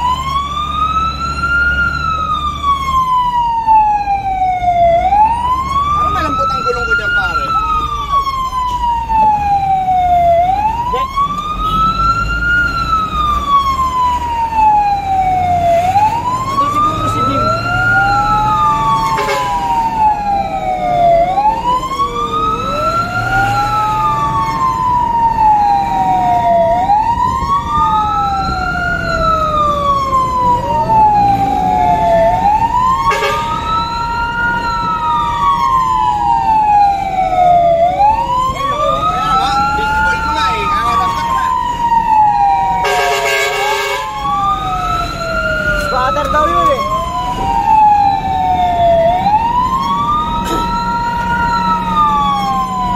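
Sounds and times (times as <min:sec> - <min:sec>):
fire engine wail siren: 0:00.0 - 0:52.9.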